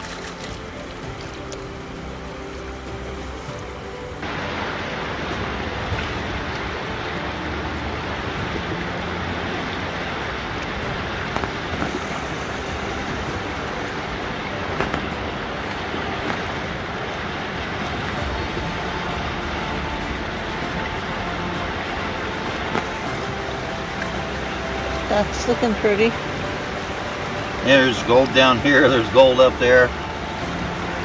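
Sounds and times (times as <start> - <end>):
river current rushing: 0.0 - 31.0.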